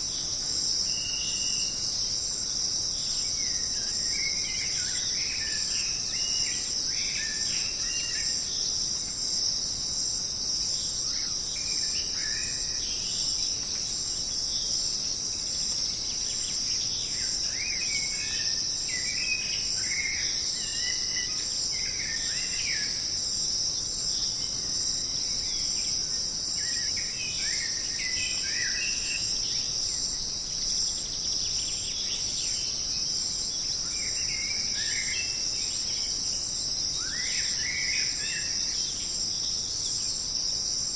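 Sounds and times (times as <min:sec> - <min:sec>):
insects buzzing and trilling: 0:00.0 - 0:40.9.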